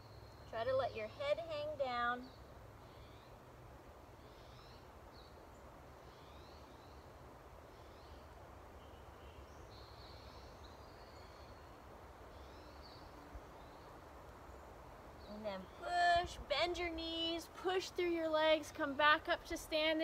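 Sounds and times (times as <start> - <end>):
low background hiss: 0.0 - 20.0.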